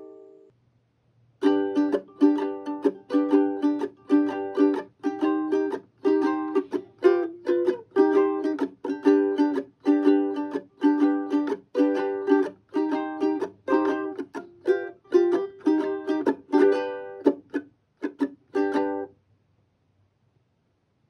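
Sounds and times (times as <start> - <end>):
ukulele strumming: 1.4 - 19.1.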